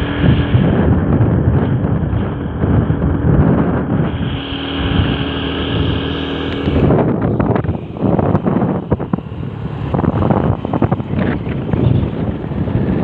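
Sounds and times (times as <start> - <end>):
steady humming tone: 0.0 - 13.0
wind buffeting microphone: 0.0 - 13.0.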